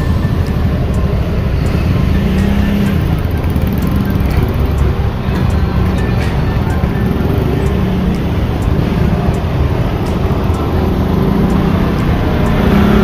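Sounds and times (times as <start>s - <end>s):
bus diesel engine running: 0.0s - 13.0s
slow road traffic: 0.0s - 13.0s.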